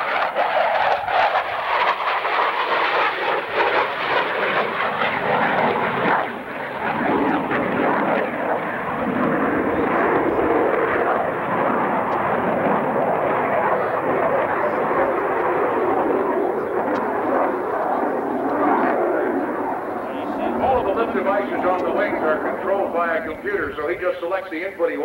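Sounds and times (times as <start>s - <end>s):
jet flying low past: 0.0s - 25.0s.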